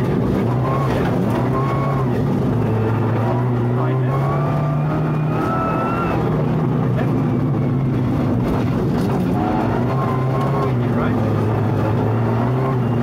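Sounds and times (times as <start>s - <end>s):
rally car engine under load: 0.0s - 13.0s.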